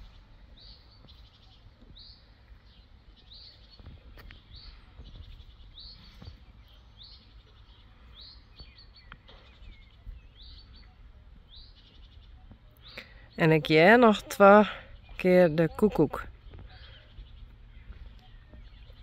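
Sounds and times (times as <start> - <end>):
small bird calling: 0.0 - 19.0.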